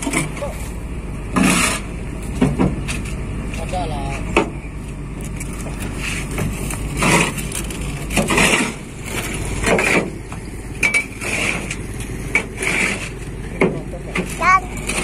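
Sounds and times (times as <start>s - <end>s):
crunching scraping bursts: 0.0s - 15.0s
heavy diesel engine running: 0.0s - 15.0s.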